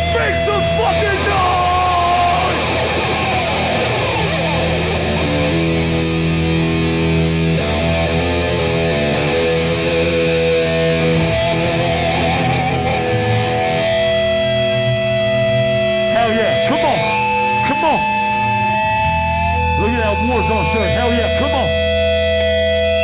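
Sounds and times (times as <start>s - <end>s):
distorted electric guitars: 0.0s - 23.0s
low bass drone: 0.0s - 23.0s.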